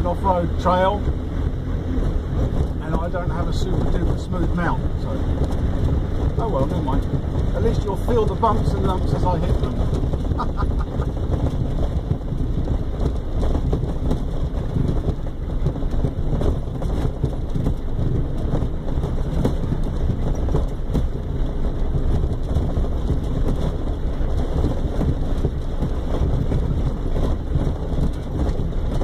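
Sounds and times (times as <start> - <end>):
engine and tyre rumble: 0.0 - 29.0
vehicle knocks and rattles: 0.0 - 29.0.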